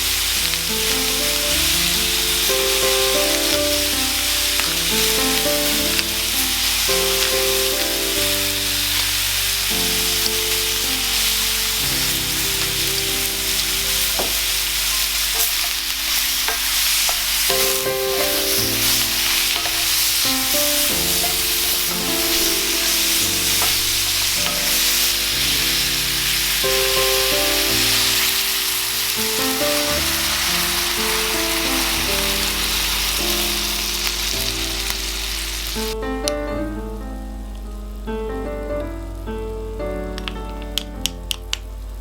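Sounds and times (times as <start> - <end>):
food sizzling in a pan: 0.0 - 36.1
background music: 0.0 - 41.8.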